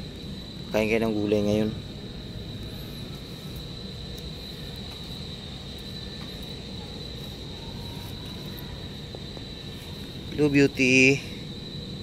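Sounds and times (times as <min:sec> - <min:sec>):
insects trilling: 0:00.0 - 0:12.0
low background rumble: 0:00.0 - 0:12.0.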